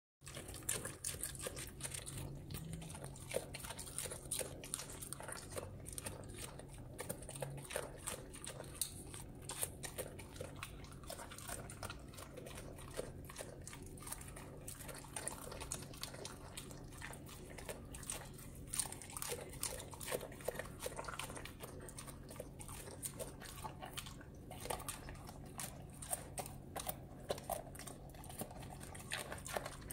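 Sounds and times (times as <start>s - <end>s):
dog crunching raw carrot: 0.2s - 29.9s.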